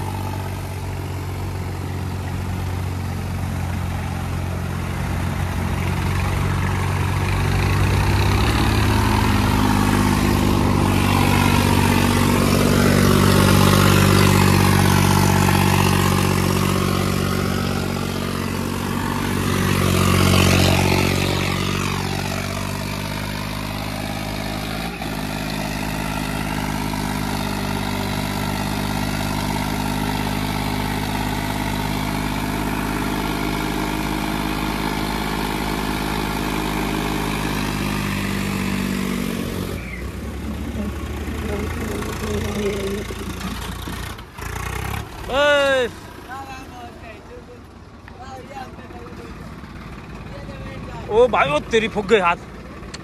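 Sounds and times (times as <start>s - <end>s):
tractor engines running hard: 0.0s - 53.0s.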